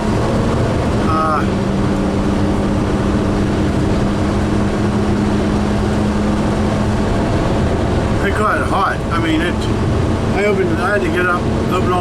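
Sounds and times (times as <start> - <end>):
engine drone: 0.0 - 12.0
road and tyre noise: 0.0 - 12.0.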